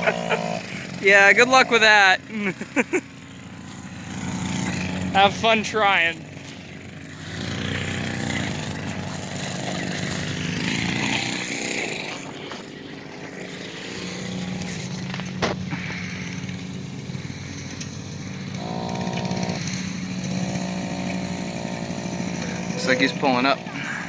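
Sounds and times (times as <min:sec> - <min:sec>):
minibike engine revving: 0:00.0 - 0:24.0.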